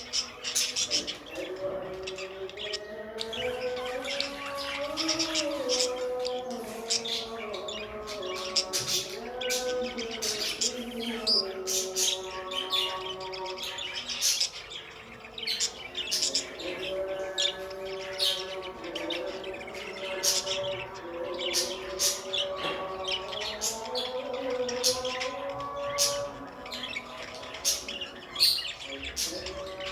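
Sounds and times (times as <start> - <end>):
background music of held tones: 0.0 - 29.9
budgerigars chirping: 0.0 - 29.9.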